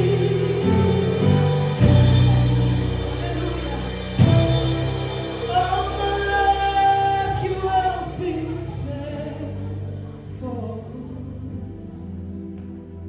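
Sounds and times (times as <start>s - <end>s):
person singing: 0.0s - 12.3s
keyboard and bass chord: 0.0s - 13.0s.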